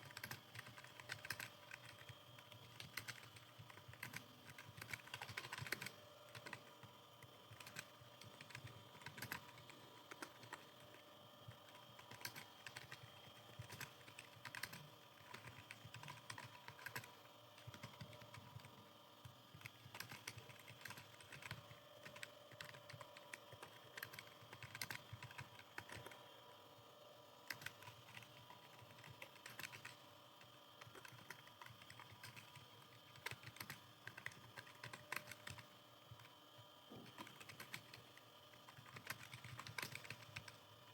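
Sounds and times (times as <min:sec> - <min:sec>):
keyboard typing: 0:00.0 - 0:26.3, 0:27.4 - 0:36.3, 0:36.9 - 0:40.7.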